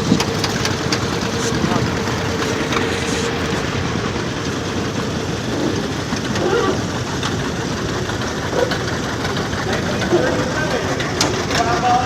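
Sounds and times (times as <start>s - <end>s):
old engine running: 0.0s - 12.0s.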